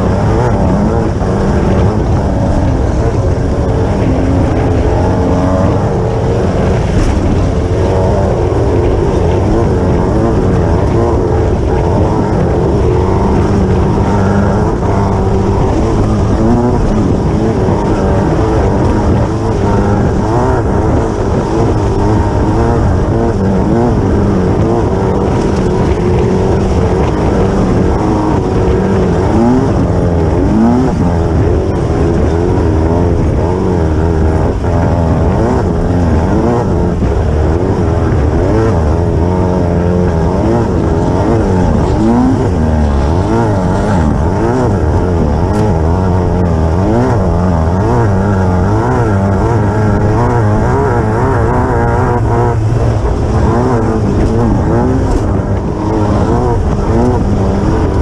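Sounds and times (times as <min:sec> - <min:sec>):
buggy engine revving: 0:00.0 - 0:58.0
din of car at speed: 0:00.0 - 0:58.0.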